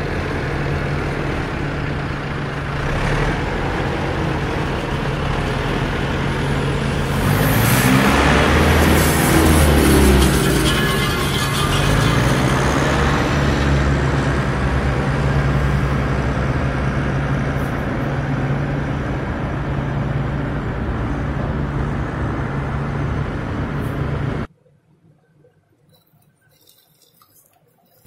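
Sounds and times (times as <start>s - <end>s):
vehicle engine humming: 0.0s - 24.5s.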